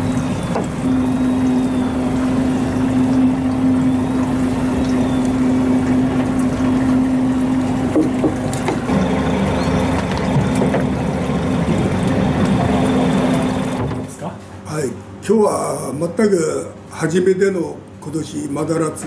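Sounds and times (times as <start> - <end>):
boat engine humming: 0.0 - 19.0
water washing along hull: 0.0 - 19.0.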